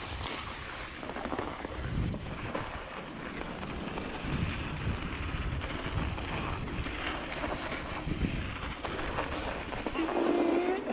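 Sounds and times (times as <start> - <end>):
bike tyres on packed snow: 0.0 - 10.9
wind on the microphone: 0.0 - 10.9.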